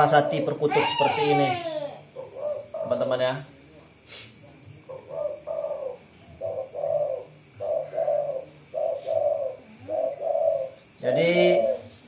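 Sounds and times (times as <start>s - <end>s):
doves cooing: 0.0s - 3.6s, 4.7s - 12.0s.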